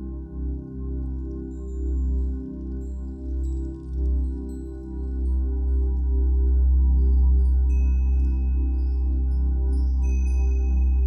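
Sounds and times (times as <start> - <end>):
ambient music with drone: 0.0 - 11.0.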